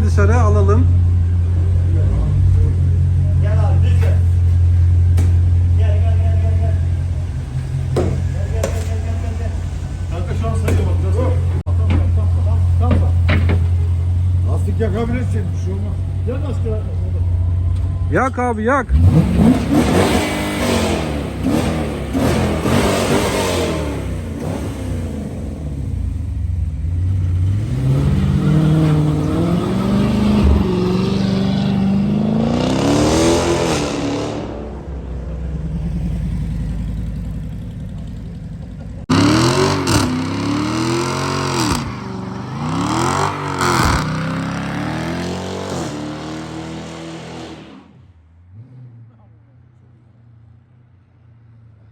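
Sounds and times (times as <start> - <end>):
car engine revving: 0.0 - 49.2.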